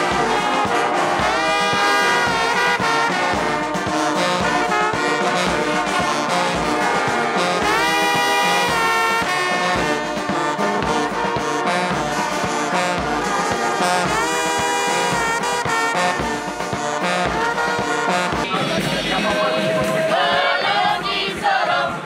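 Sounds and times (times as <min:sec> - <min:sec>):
bass drum beat: 0:00.0 - 0:21.5
brass marching band playing: 0:00.0 - 0:22.0.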